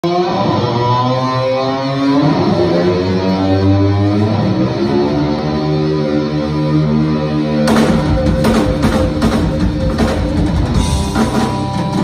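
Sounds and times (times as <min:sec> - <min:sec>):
electric guitar sliding notes: 0:00.0 - 0:12.0
rock band playing: 0:00.0 - 0:12.0.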